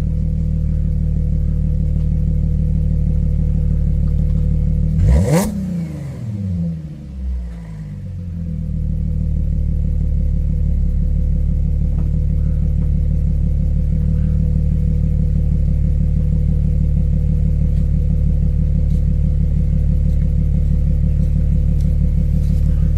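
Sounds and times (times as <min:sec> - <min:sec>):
car engine revving and idling: 0:00.0 - 0:22.9.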